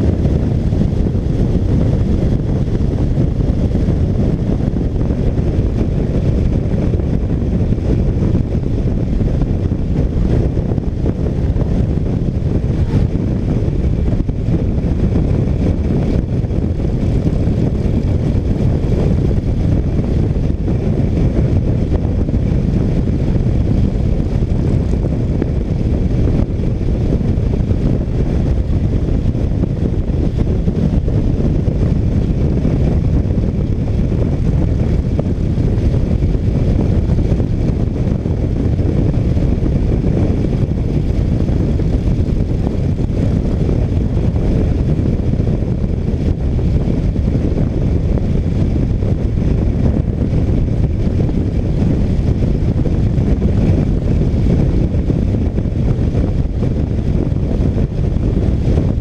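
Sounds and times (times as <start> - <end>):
motorcycle engine cruising: 0.0 - 59.0
wind noise: 0.0 - 59.0.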